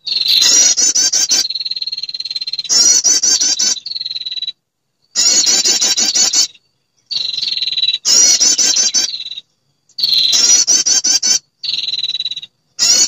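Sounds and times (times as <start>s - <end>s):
fast rattling bird trill: 0.0s - 13.0s.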